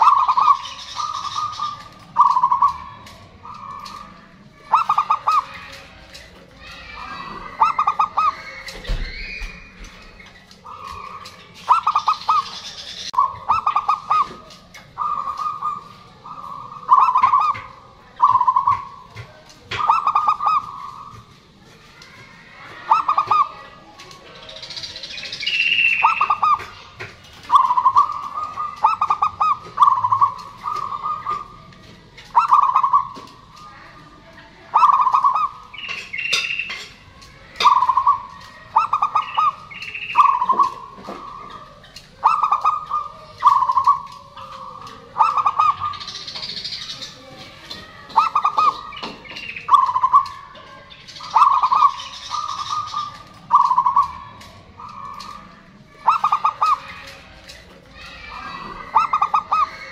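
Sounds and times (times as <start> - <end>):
birds chirping: 0.0 - 59.9
dove cooing: 0.0 - 59.9.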